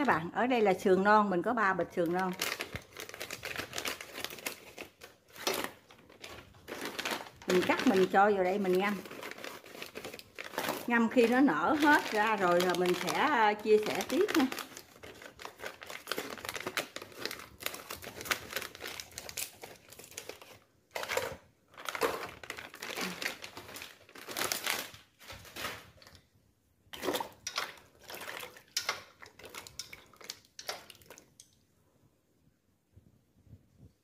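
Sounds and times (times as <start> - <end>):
plastic bag crinkling: 2.0 - 26.2, 27.0 - 31.5.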